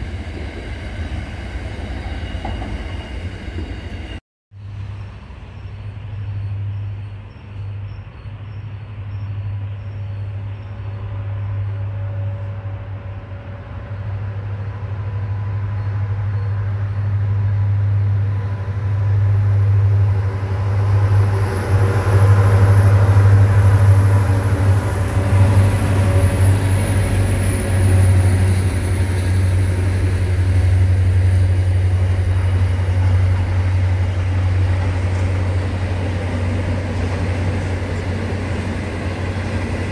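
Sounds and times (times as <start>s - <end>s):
locomotive drone: 0.0s - 39.9s.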